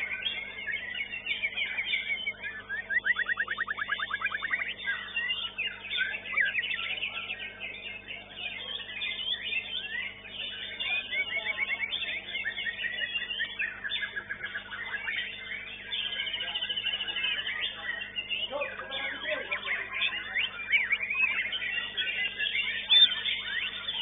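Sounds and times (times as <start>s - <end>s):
bird song of trills and whistles: 0.0s - 24.0s
steady low hum: 0.0s - 24.0s.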